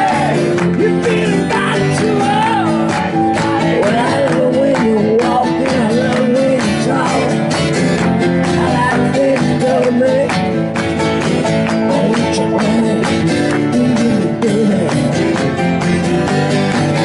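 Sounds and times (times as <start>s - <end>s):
male lead vocal: 0.0s - 15.7s
strummed acoustic guitars: 0.0s - 17.0s.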